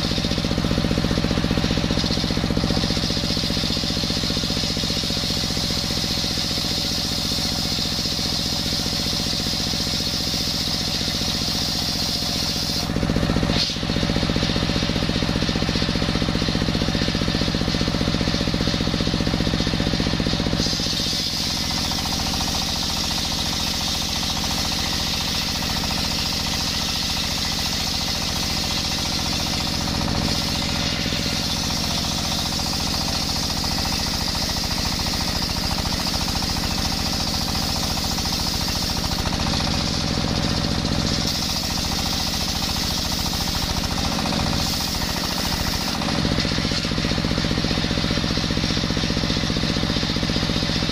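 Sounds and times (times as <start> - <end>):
circular saw whining through wood: 0.0 - 50.9
diesel engine rattling: 0.0 - 50.9.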